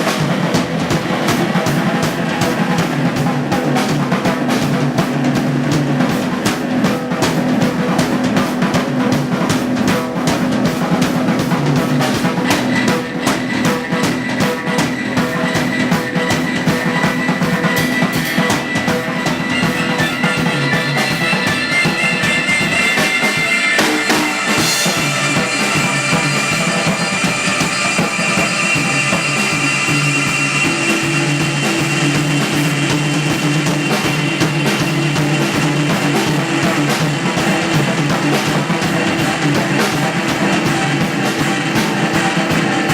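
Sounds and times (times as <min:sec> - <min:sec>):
live band playing: 0:00.0 - 0:42.9.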